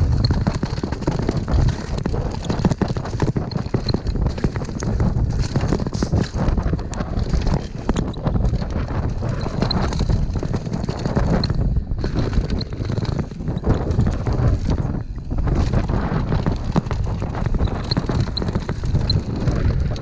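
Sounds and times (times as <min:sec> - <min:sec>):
bike rattling over bumps: 0:00.0 - 0:20.0
wind buffeting microphone: 0:00.0 - 0:20.0.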